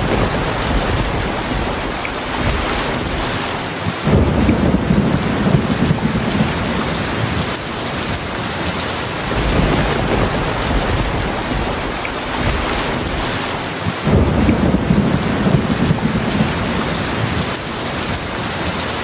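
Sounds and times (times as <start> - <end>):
low rumbling thunder: 0.0 - 8.4, 9.0 - 17.6
heavy rain: 0.0 - 19.0.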